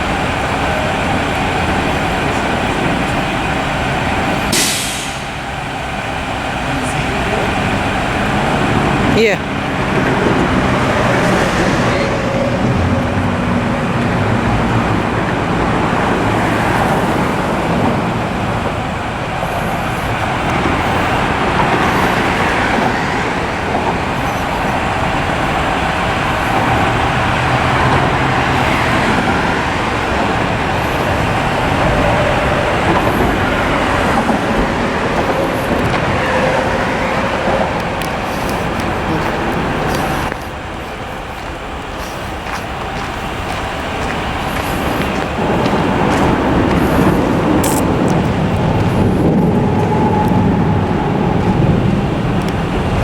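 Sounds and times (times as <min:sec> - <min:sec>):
diesel truck engines running: 0:00.0 - 0:53.0.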